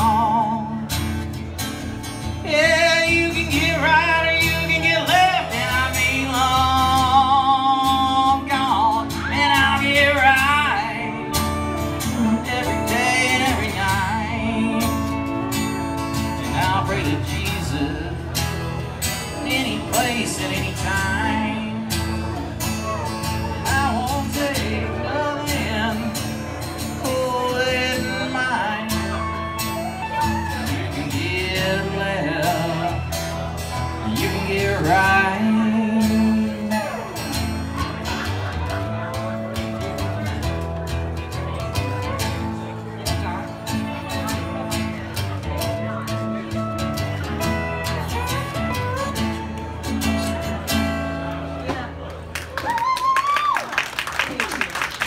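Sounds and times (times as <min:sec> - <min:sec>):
acoustic guitar strumming: 0:00.0 - 0:52.1.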